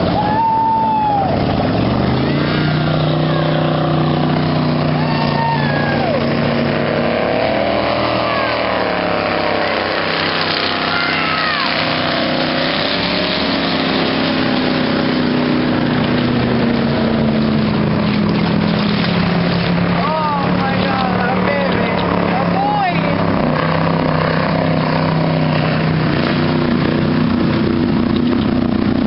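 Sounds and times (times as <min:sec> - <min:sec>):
motorboat engines running: 0:00.0 - 0:29.0.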